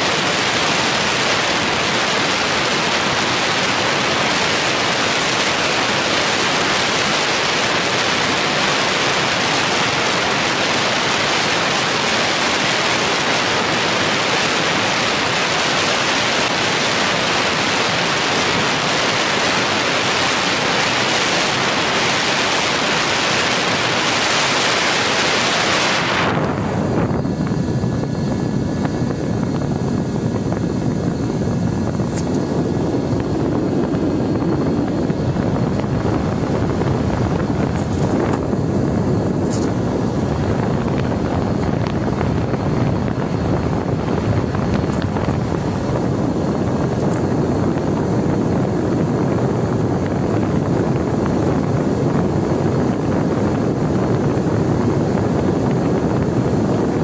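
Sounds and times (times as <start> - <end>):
faint steady whine: 0.0 - 57.0
wind rushing over camera: 0.0 - 57.0.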